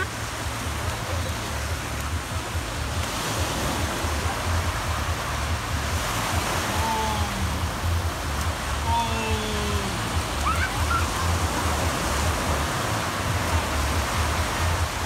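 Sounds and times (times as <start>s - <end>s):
waves washing on sandy shore: 0.0s - 15.0s
wind buffeting microphone: 0.0s - 15.0s.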